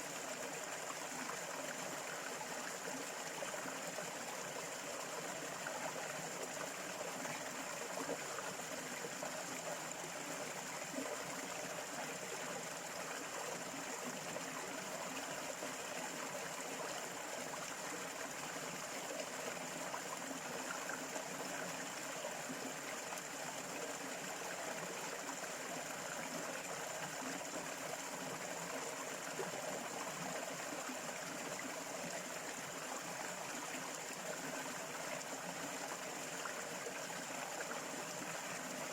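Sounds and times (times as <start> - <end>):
stream trickling and gurgling: 0.0 - 38.9.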